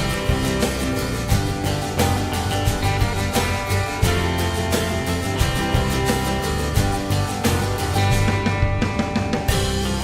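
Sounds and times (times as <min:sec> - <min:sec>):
guitar and drum music: 0:00.0 - 0:10.0.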